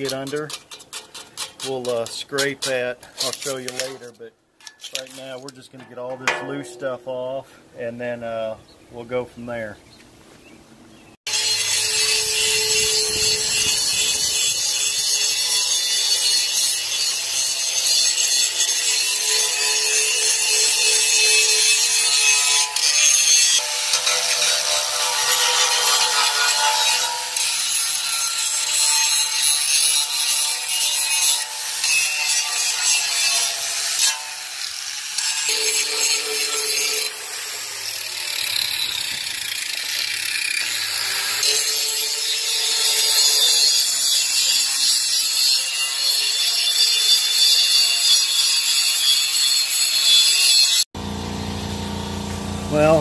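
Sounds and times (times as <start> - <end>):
metal tools scraping metal: 0.0 - 7.2, 11.3 - 34.4, 35.1 - 50.7.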